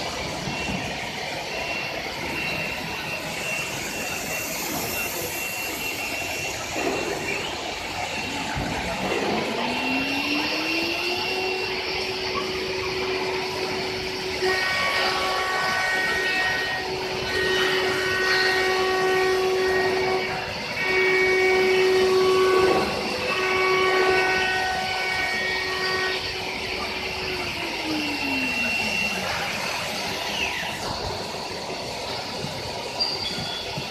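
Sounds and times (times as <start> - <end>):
higher whining tones: 0.0 - 33.9
router spindle whine: 0.0 - 33.9.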